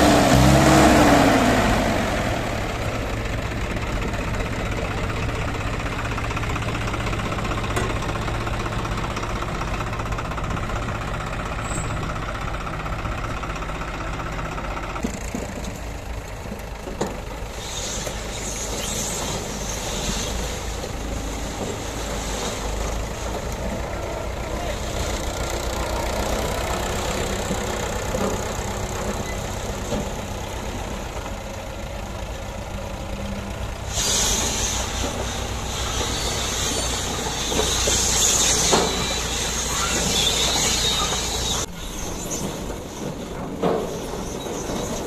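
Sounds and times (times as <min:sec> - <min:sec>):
diesel tractor engines idling: 0:00.0 - 0:45.0.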